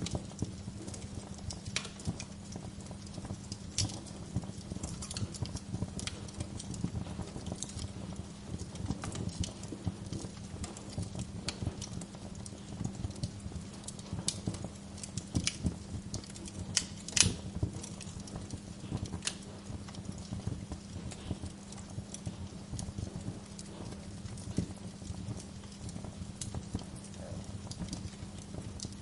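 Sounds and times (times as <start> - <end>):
low steady hum: 0.0 - 29.0
wood fire crackling: 0.0 - 29.0.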